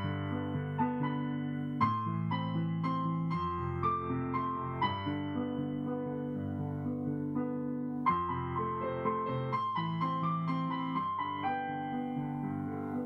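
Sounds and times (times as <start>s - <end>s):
gentle piano-like keyboard chords: 0.0s - 13.0s.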